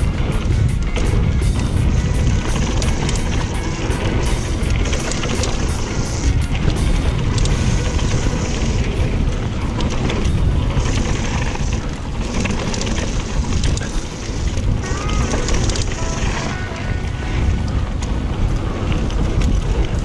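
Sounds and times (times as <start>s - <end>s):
background music: 0.0s - 20.0s
tyres rumbling over dirt: 0.0s - 20.0s
wind buffeting microphone: 0.0s - 20.0s.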